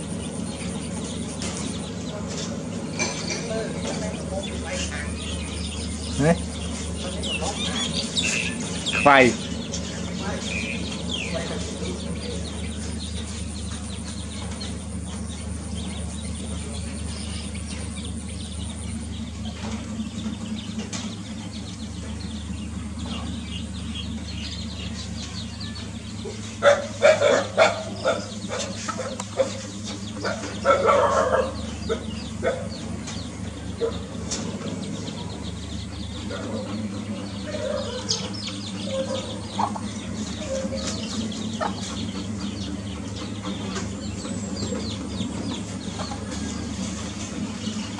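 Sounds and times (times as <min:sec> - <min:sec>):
chicks peeping: 0:00.0 - 0:47.9
hen clucking: 0:00.0 - 0:47.9
low hum: 0:00.0 - 0:47.9.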